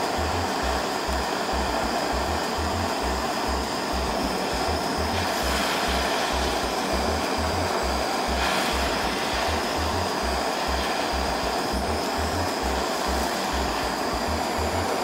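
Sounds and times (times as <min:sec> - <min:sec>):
background music with low beat: 0:00.0 - 0:15.0
hot-air blower rushing: 0:00.0 - 0:15.0.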